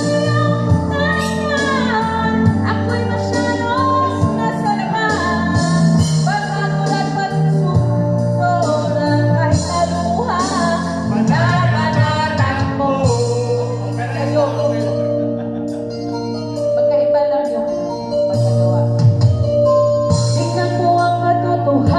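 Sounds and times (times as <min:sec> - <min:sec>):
woman singing into a microphone: 0:00.0 - 0:15.1, 0:16.6 - 0:21.9
music backing track with bass: 0:00.0 - 0:21.9.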